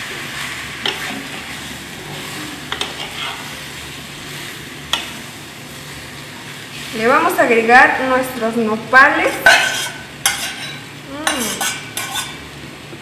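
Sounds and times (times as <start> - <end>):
food sizzling in hot oil: 0.0 - 12.9.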